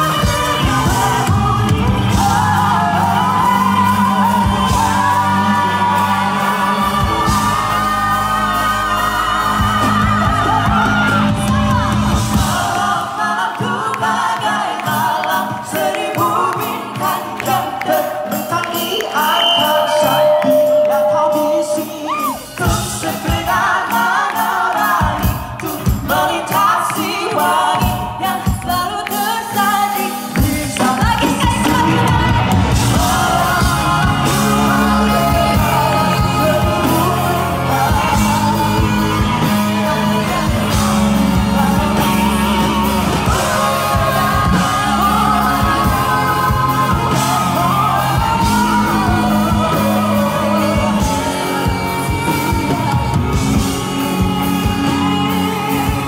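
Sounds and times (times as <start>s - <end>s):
live pop band playing: 0.0s - 56.0s
woman and man singing duet: 0.0s - 56.0s.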